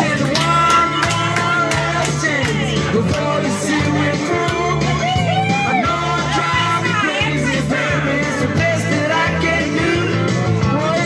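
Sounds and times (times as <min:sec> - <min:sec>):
karaoke backing music with beat: 0:00.0 - 0:11.0
man singing into microphone: 0:00.0 - 0:11.0.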